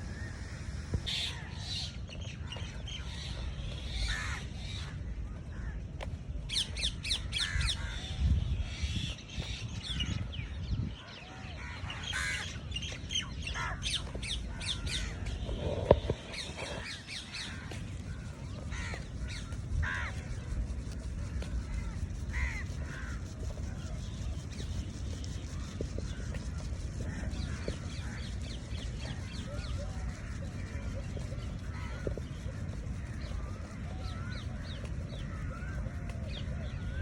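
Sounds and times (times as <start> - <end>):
birds calling and chirping: 0.0 - 37.0
low background rumble: 0.0 - 37.0.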